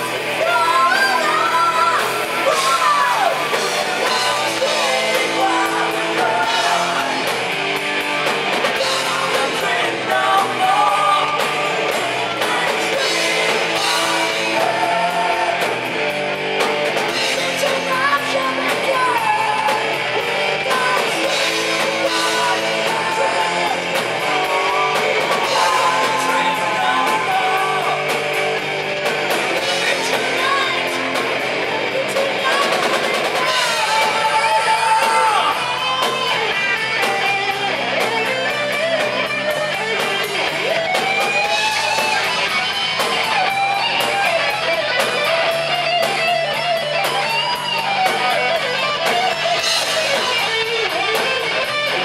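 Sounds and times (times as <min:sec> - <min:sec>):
person singing: 0:00.0 - 0:07.6, 0:08.6 - 0:16.0, 0:16.6 - 0:28.6, 0:29.5 - 0:46.5
bass guitar: 0:00.0 - 0:52.0
distorted electric guitars: 0:00.0 - 0:52.0
drum kit: 0:00.0 - 0:52.0.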